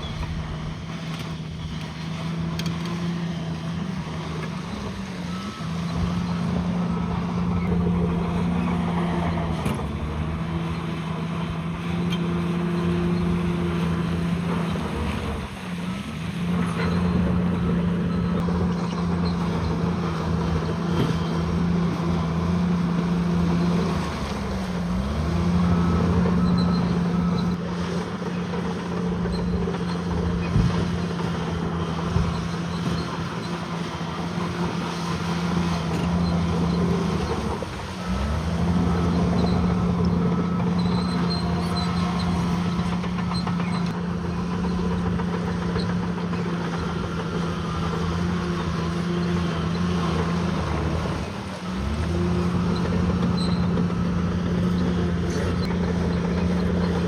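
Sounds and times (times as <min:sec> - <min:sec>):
bulldozer diesel engine revving: 0:00.0 - 0:57.0.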